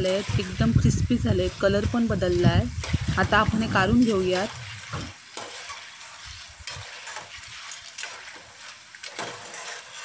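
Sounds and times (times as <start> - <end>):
deep-frying sizzle: 0.0 - 10.0.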